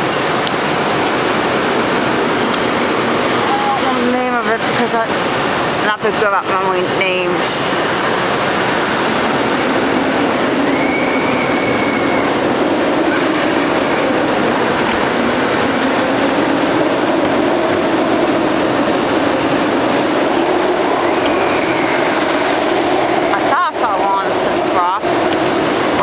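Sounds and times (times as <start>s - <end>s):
churning water rushing: 0.0s - 26.0s
ride machinery drone: 0.0s - 26.0s.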